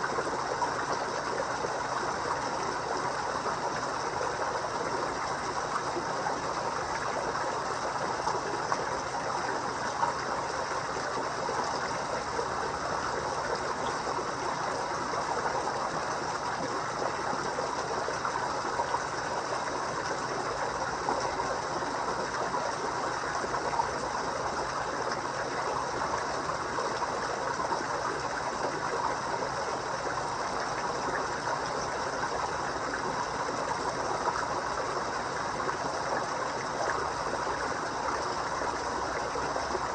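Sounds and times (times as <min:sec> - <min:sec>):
pond water trickling: 0:00.0 - 0:39.9.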